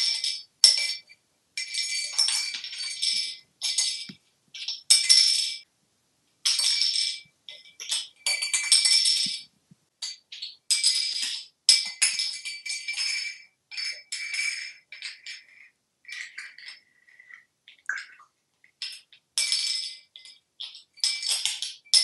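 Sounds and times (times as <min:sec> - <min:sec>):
bottle cap rattling on tiles: 0:00.0 - 0:05.7, 0:06.4 - 0:22.0.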